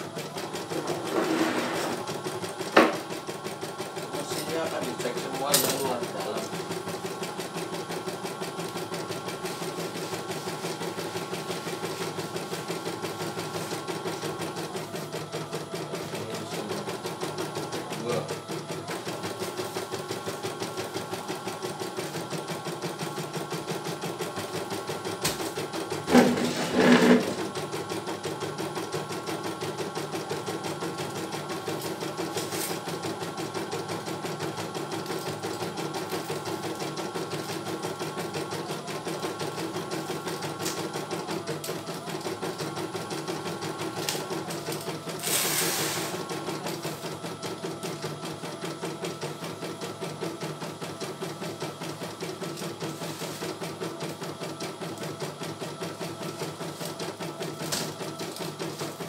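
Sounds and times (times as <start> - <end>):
embroidery machine stitching: 0.0 - 59.0.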